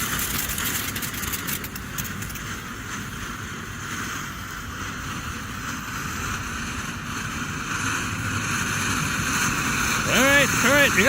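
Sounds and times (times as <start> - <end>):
ground firework hissing: 0.0 - 11.0.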